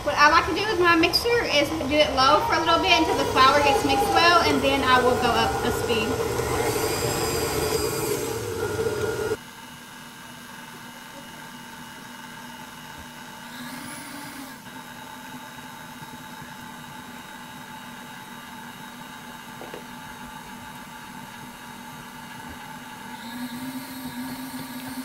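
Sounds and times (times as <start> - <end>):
stand mixer motor humming: 0.8 - 9.4, 11.3 - 25.0.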